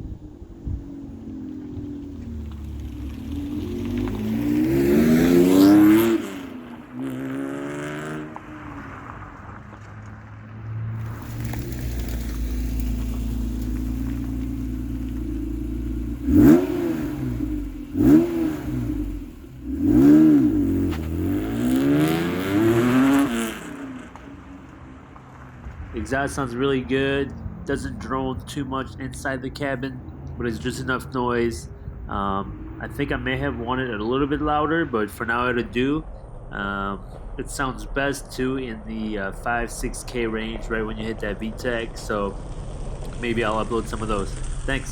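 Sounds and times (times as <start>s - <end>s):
car engine revving and idling: 0.0s - 44.9s.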